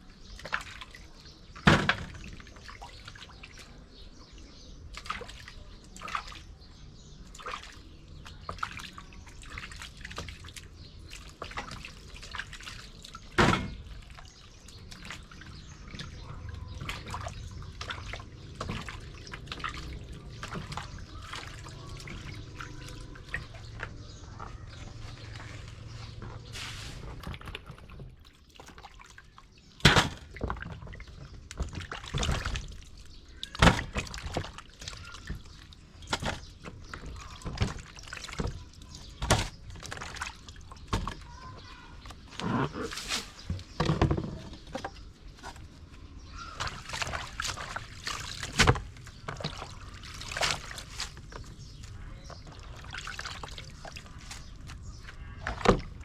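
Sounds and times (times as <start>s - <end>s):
water dripping and splashing: 0.0s - 56.0s.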